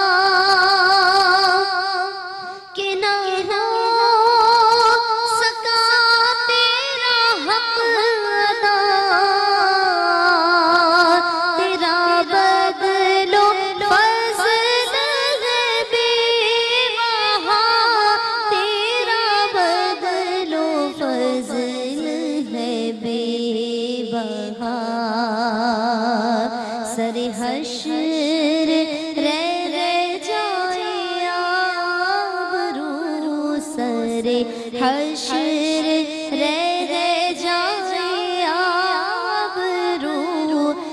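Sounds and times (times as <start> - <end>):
woman singing: 0.0 - 40.9.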